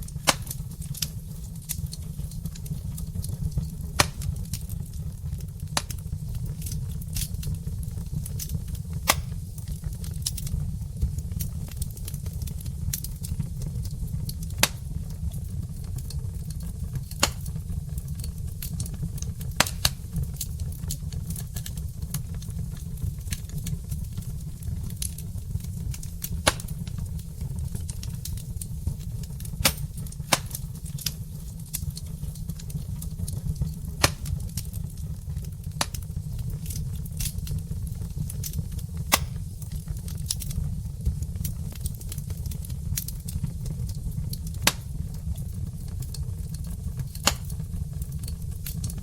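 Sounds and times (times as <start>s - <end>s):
fire low rumble: 0.0s - 49.0s
logs crackling and popping: 0.0s - 49.0s.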